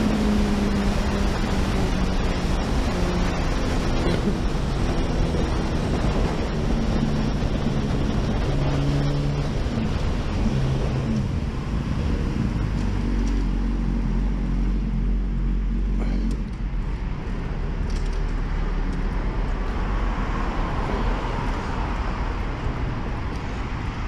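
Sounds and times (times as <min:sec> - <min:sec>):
wind rushing over camera: 0:00.0 - 0:15.6, 0:16.3 - 0:24.0.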